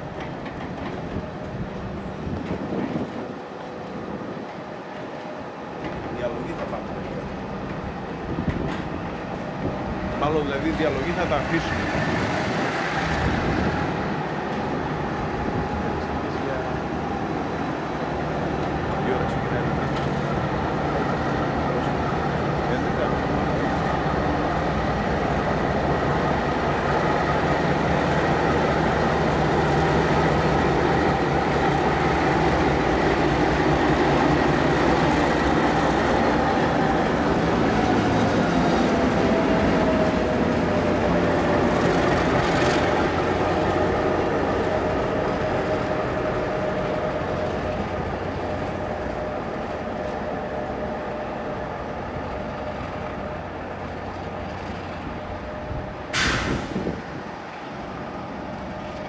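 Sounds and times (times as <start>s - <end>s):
diesel train passing: 0.0s - 59.0s.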